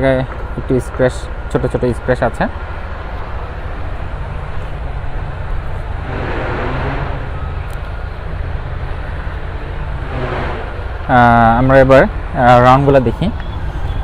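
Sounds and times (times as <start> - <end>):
vehicle and street rumble: 0.0 - 14.0.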